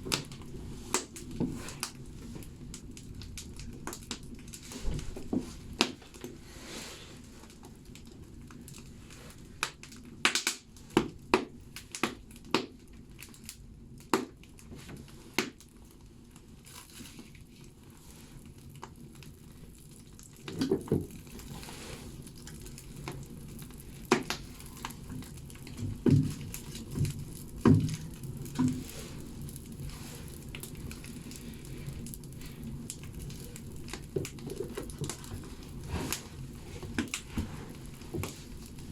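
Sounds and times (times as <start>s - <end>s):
firewood crackling and popping: 0.0s - 38.9s
low rumble of fire: 0.0s - 38.9s.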